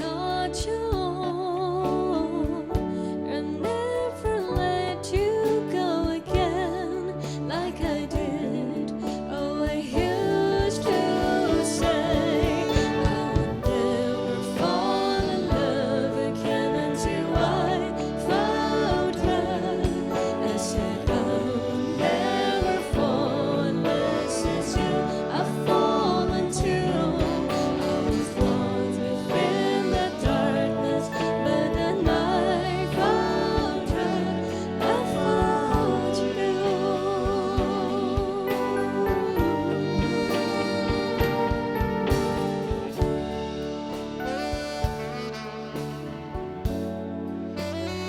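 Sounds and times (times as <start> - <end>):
person singing with vibrato: 0.0 - 42.9
live band playing slow song: 0.0 - 48.0.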